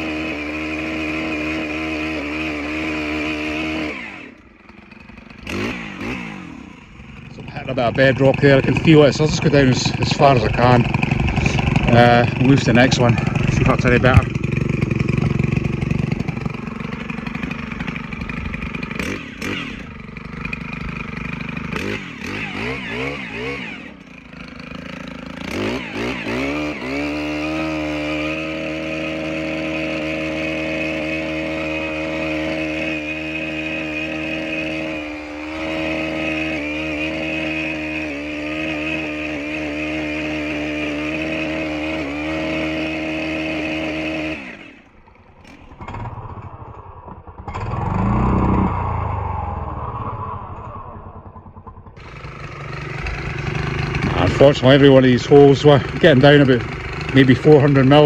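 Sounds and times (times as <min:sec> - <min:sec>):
earth auger engine revving: 0:00.0 - 0:58.0.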